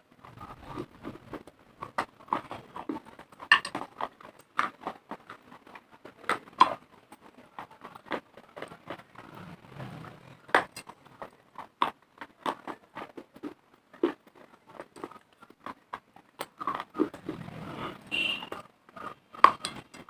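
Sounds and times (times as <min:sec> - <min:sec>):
crunching hard clay between teeth: 0:00.3 - 0:17.4.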